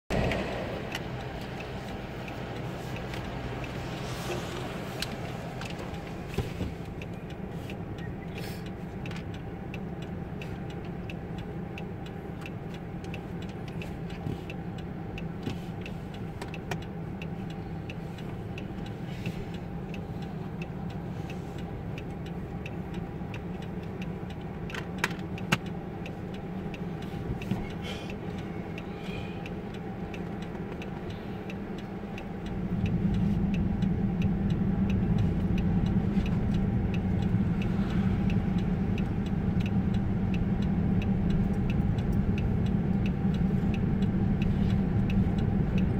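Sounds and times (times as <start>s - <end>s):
car road noise on wet road: 0.1s - 45.9s
light ticks: 0.3s - 45.9s.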